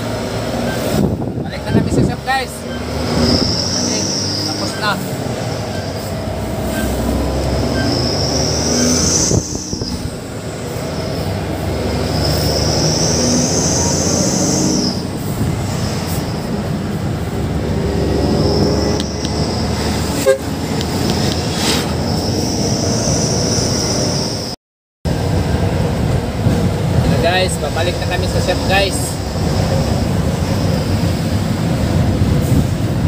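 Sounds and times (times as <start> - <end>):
truck engine and road rumble: 0.0 - 33.0.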